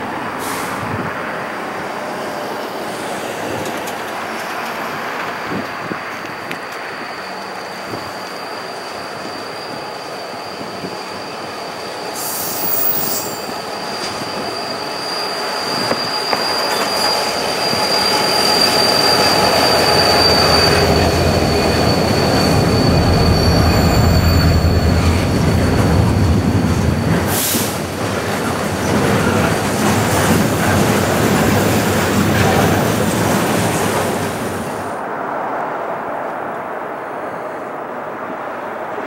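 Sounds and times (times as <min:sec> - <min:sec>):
train wheels squealing: 0:02.0 - 0:34.9.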